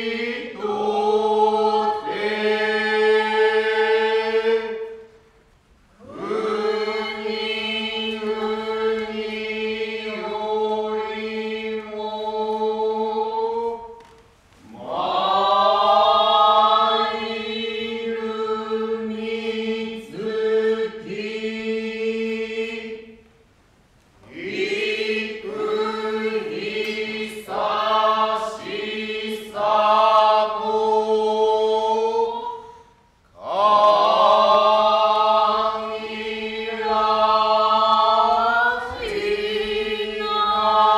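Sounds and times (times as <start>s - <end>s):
voices chanting in unison: 0.0s - 5.1s, 6.0s - 14.0s, 14.6s - 23.2s, 24.2s - 32.8s, 33.4s - 40.9s.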